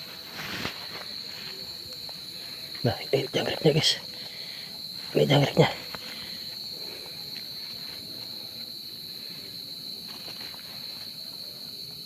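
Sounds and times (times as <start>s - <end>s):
faint rustles: 0.0s - 2.9s, 4.1s - 11.6s
crickets trilling: 0.0s - 12.0s.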